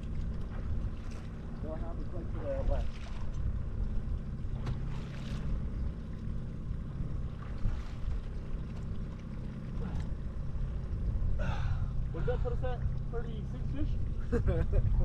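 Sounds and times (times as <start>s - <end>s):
boat motor humming: 0.0s - 15.0s
water noise: 0.0s - 15.0s
wind: 0.0s - 15.0s.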